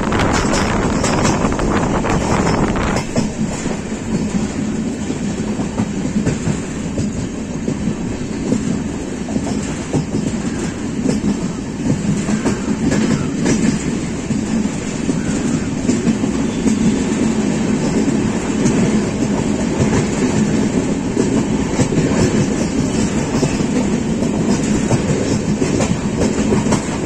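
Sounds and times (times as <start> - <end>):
train wheels rumbling on rails: 0.0 - 27.0
wheels clacking over rail joints: 0.0 - 27.0.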